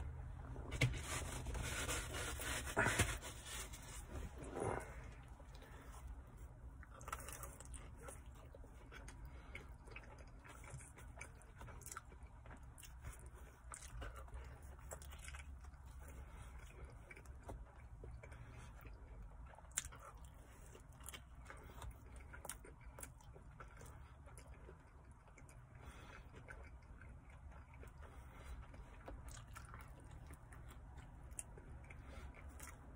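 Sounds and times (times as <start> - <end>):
chewing pizza: 0.0 - 32.9
low steady hum: 0.0 - 32.9.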